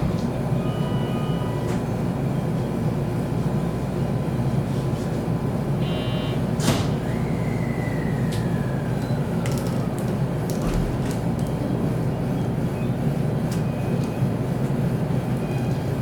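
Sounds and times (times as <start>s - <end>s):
electric train low rumble: 0.0s - 16.0s.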